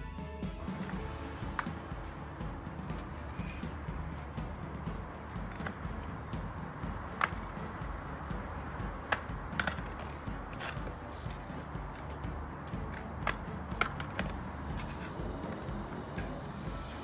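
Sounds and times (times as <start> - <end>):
paper plate tapping on paving: 0.8 - 16.6.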